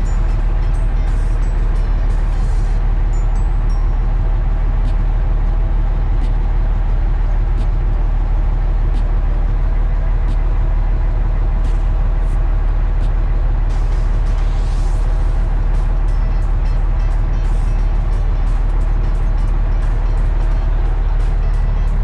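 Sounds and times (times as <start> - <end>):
heavy engine droning: 0.0 - 22.0.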